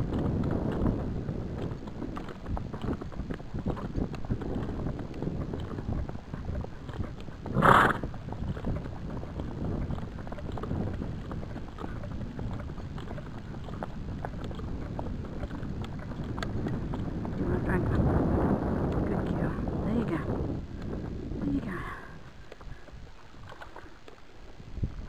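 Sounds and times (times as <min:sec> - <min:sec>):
horse hoofbeats on dirt: 0:00.0 - 0:25.0.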